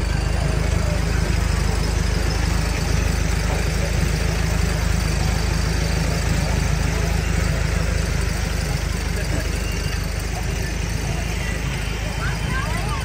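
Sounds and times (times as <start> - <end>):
fire truck engine idling: 0.0 - 13.0.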